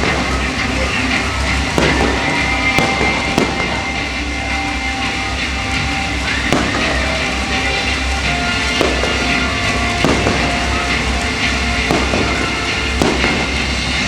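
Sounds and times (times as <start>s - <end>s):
fireworks bangs: 0.0s - 14.0s
patriotic music: 0.0s - 14.0s.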